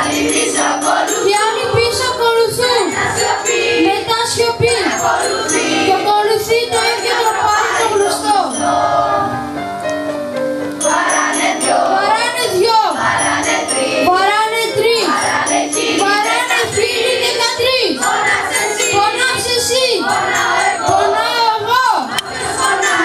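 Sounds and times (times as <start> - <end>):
children's choir singing: 0.0 - 9.6, 10.8 - 23.0.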